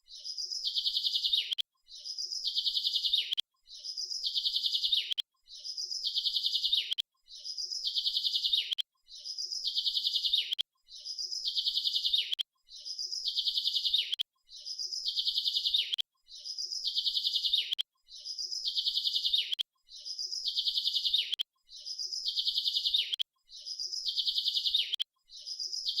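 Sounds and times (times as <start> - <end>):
bird chirping trill: 0.0 - 26.0.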